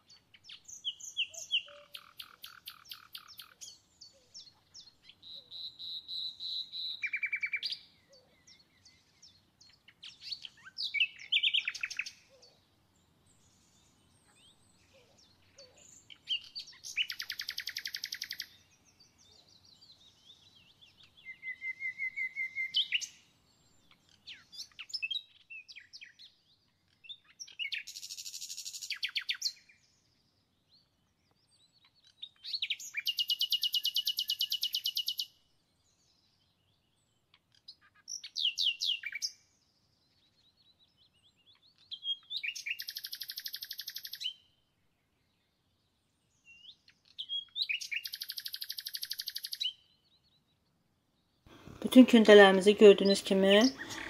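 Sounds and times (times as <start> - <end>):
songbird singing fast trills: 0.0 - 44.6, 45.2 - 50.6, 51.2 - 54.0.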